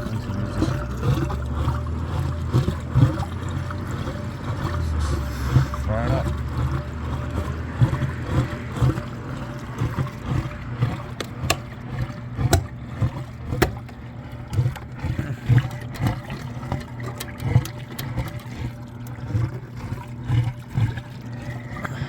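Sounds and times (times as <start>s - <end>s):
blower motor humming: 0.0s - 22.0s
water gurgling and splashing in duct: 0.0s - 22.0s.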